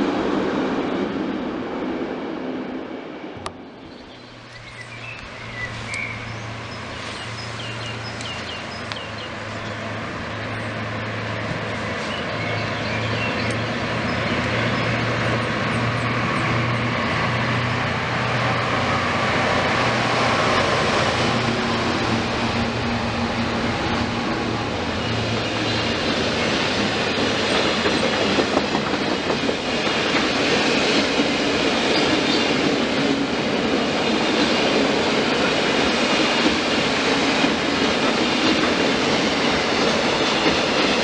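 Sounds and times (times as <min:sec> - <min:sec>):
diesel locomotive engines humming: 0:00.0 - 0:41.0.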